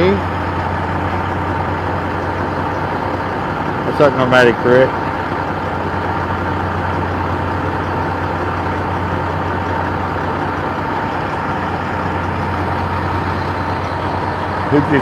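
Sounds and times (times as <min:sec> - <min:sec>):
diesel truck engine idling: 0:00.0 - 0:15.0
thin steady whine: 0:00.0 - 0:15.0.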